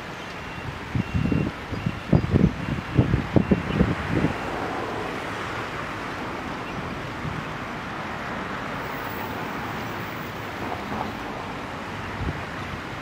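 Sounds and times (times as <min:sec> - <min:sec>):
water rushing through channel: 0:00.0 - 0:13.0.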